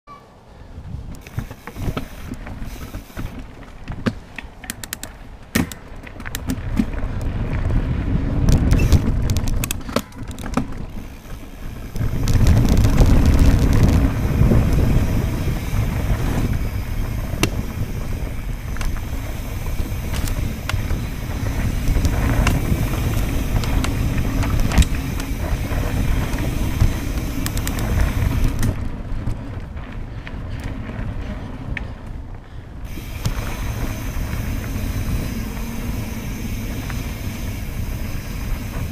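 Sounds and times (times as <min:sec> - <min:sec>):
wind buffeting microphone: 0:00.6 - 0:04.6, 0:05.3 - 0:38.9
bike tyres rolling over dirt: 0:00.8 - 0:38.9
bike clicking and rattling: 0:01.1 - 0:38.9.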